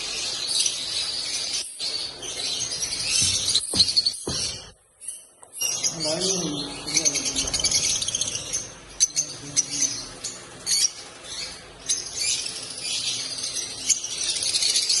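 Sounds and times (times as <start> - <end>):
lovebirds chattering: 0.0 - 15.0.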